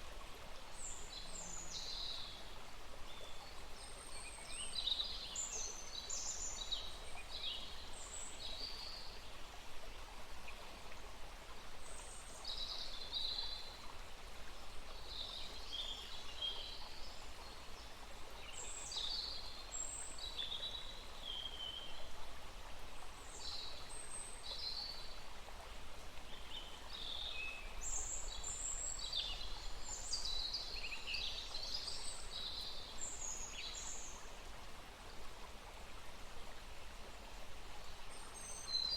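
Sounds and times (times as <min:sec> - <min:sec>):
forest stream flowing: 0:00.0 - 0:38.9.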